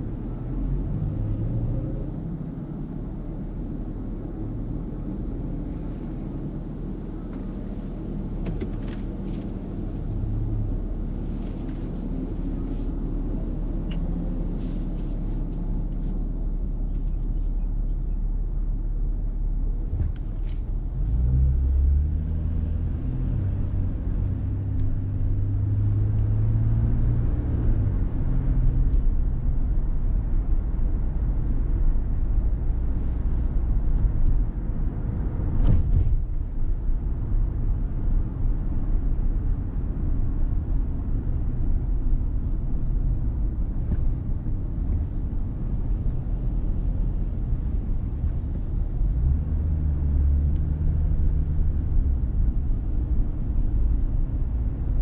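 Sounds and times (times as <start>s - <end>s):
engine and road rumble: 0.0s - 55.0s
low engine hum: 0.0s - 55.0s.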